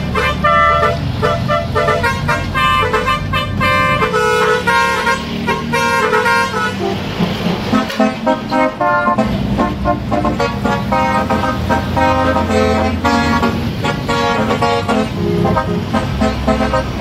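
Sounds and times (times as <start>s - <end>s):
musical air horn tune: 0.0s - 17.0s
truck engine running: 0.0s - 17.0s.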